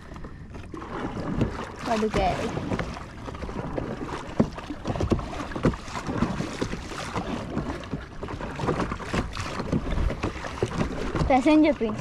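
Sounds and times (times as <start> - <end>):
paddle splashes: 0.0 - 12.0
water slapping against hull: 0.0 - 12.0.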